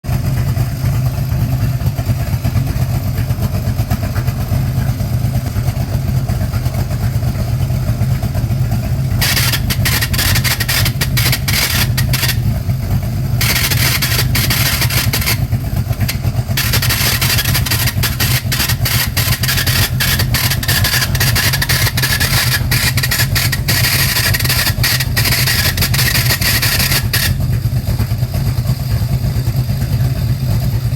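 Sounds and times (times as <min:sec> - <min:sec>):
car engine idling: 0:00.0 - 0:30.9
high-pitched rasping from clutch: 0:00.1 - 0:30.2.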